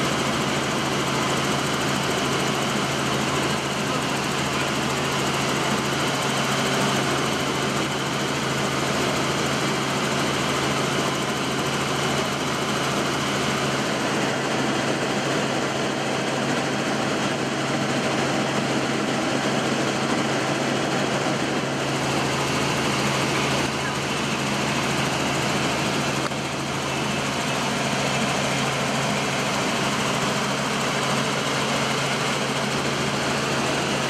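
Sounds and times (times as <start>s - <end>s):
helicopter engine and rotor noise: 0.0s - 34.0s.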